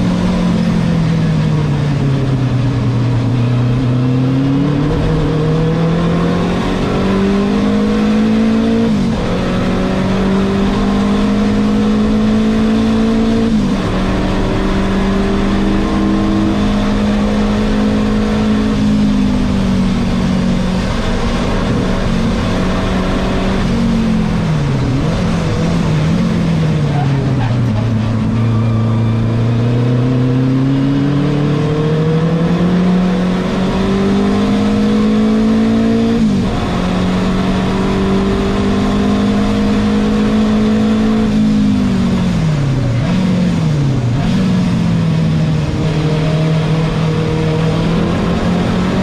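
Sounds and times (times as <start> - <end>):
racing car engine revving: 0.0 - 49.0.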